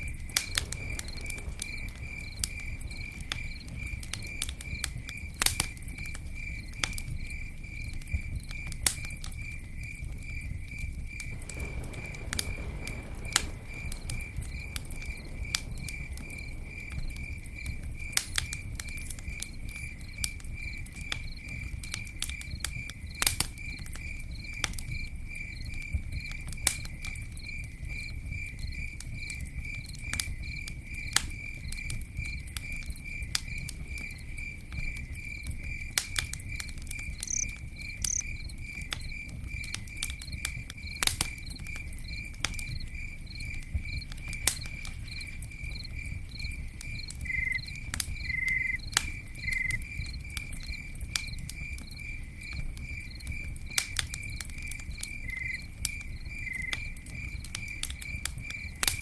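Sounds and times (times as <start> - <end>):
campfire pops and crackles: 0.0 - 59.0
cricket chirping: 0.0 - 59.0
lower cricket chirp: 0.0 - 59.0.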